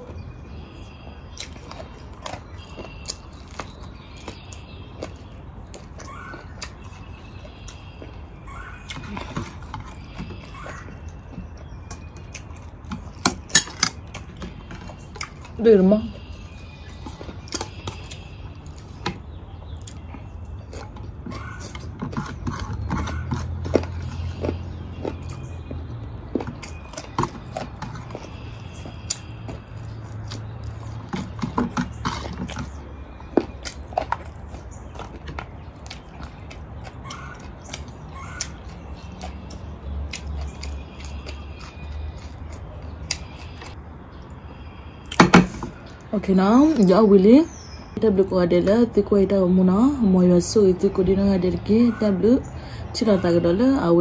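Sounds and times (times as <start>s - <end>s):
chewing: 0.0s - 46.1s.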